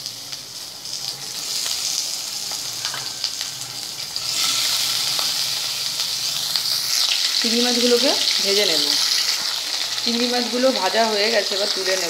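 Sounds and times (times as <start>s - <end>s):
oil crackling: 0.0s - 12.0s
prawns sizzling in hot oil: 0.0s - 12.0s.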